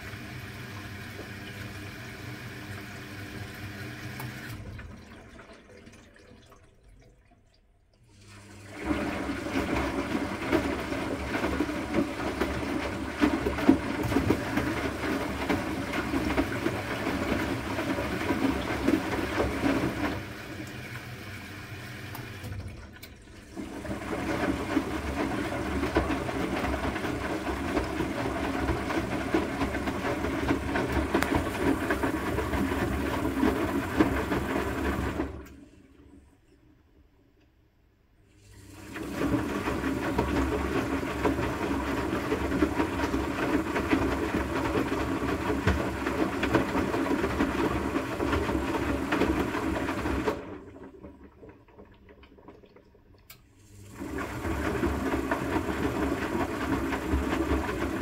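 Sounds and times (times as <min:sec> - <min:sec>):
washing machine water sloshing: 0:00.0 - 0:36.7, 0:38.2 - 0:58.0.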